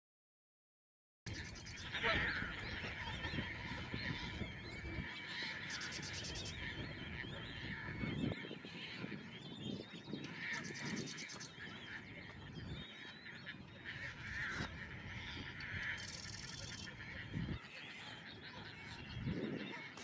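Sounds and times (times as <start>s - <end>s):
bird warbling chatter: 1.3s - 20.0s
birds honking calls: 1.3s - 20.0s.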